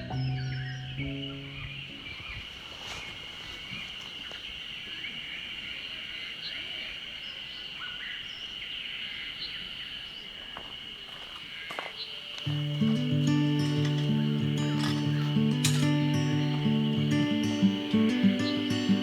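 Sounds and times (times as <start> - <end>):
bird chirps: 0.0 - 19.0
high insect drone: 1.0 - 19.0.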